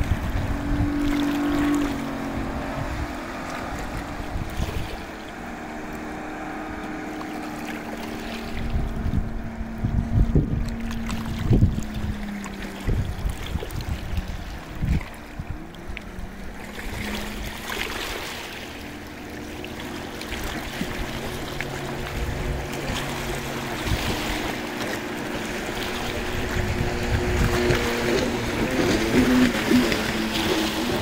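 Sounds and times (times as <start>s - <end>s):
speedboat engine drone: 0.0s - 31.0s
wind buffeting microphone: 0.0s - 31.0s.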